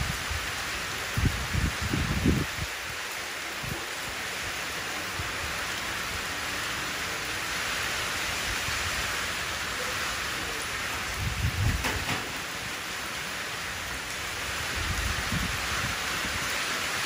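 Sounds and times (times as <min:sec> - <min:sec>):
rain falling into a puddle: 0:00.0 - 0:17.0.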